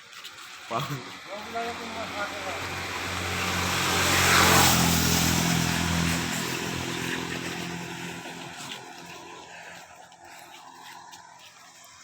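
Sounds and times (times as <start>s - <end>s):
vehicle passing by: 0.7s - 10.8s.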